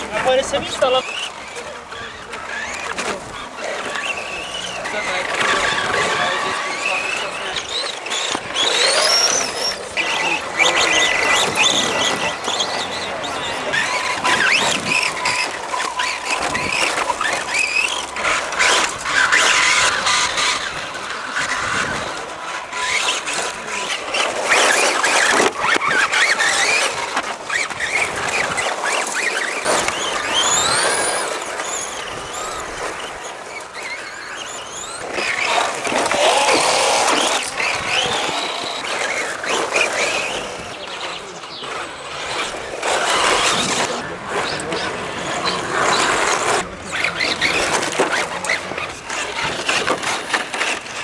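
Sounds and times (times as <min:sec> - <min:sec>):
electric motors whining: 0:00.0 - 0:51.0
tyres scrabbling on gravel: 0:00.0 - 0:51.0.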